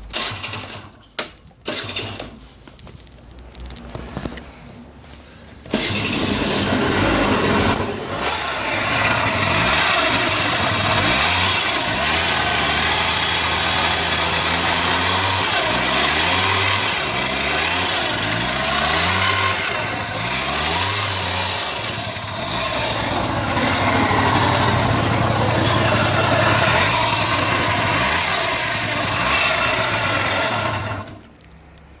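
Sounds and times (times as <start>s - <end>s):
scooter engine revving: 0.1s - 1.0s, 1.6s - 2.4s, 5.6s - 31.2s.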